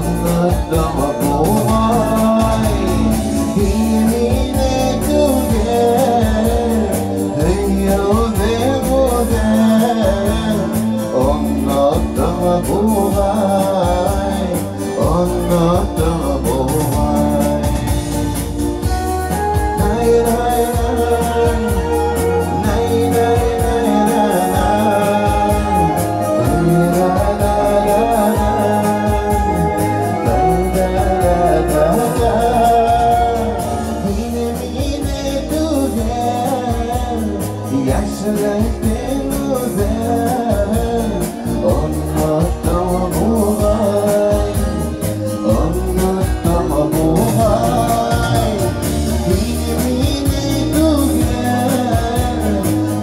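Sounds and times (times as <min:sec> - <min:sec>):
backing music with steady beat: 0:00.0 - 0:53.0
man singing: 0:00.0 - 0:53.0.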